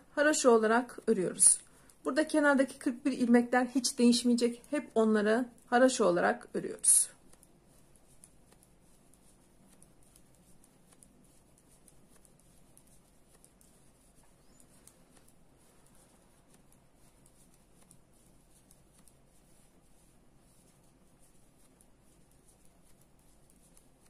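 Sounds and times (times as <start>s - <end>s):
knitting needles clicking: 3.5s - 24.0s.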